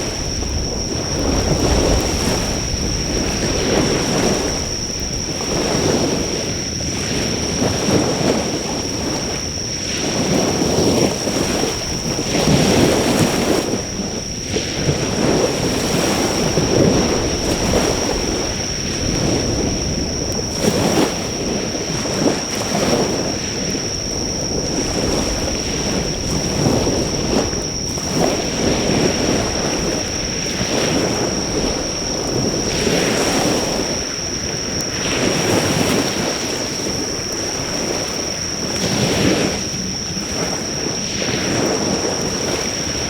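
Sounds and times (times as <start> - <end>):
high-pitched insect trill: 0.0 - 43.0
waves breaking on a shore: 0.0 - 43.0.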